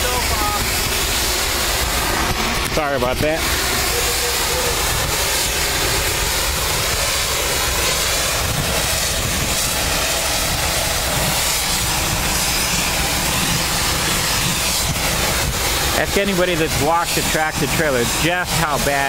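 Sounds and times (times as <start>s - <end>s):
pressure washer spray hiss: 0.0s - 19.0s.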